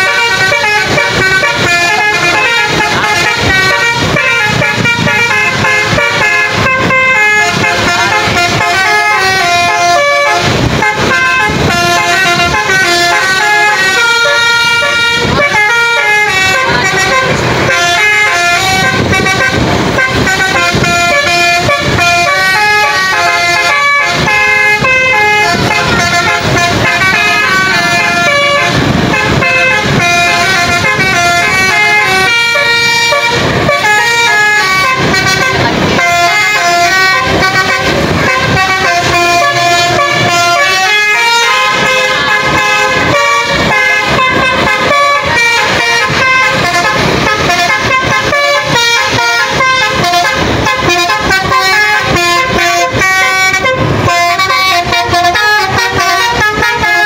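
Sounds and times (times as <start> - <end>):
musical bus air horn melody: 0.0 - 57.0.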